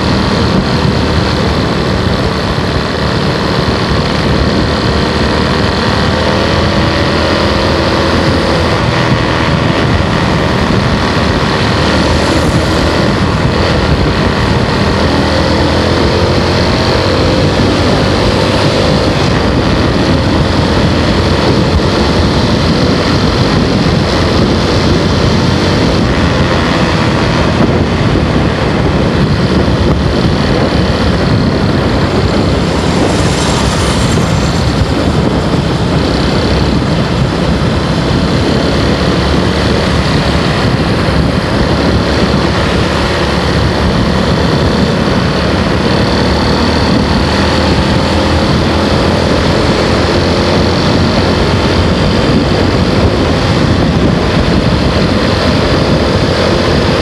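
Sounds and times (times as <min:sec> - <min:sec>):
motorbike engine running: 0:00.0 - 0:57.0
wind noise: 0:00.0 - 0:57.0.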